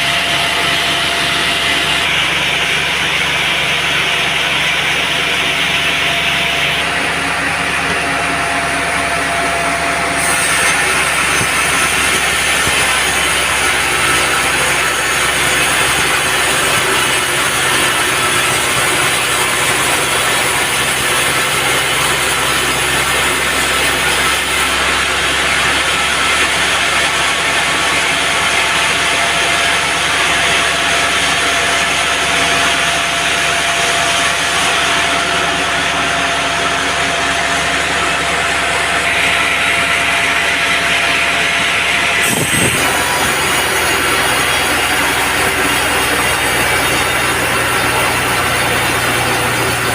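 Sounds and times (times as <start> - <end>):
band saw cutting wood: 0.0 - 49.9.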